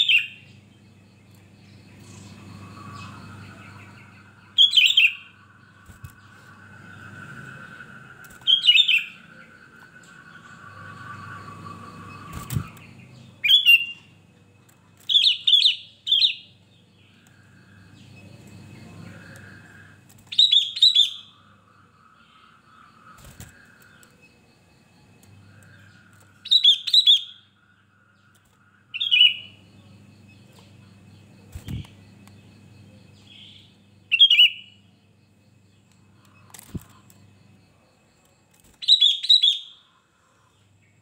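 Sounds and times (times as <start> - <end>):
bird chirping: 0.0 - 35.0, 35.6 - 41.0.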